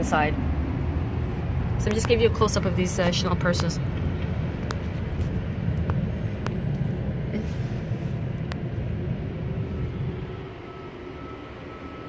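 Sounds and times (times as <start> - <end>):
distant city traffic rumble: 0.0 - 12.0.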